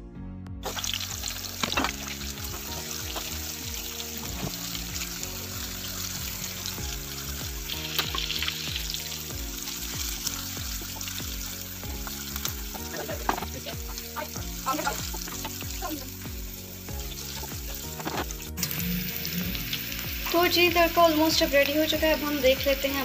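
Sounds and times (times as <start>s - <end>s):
background music with melody: 0.0s - 23.0s
chillies sizzling in hot oil: 0.6s - 23.0s.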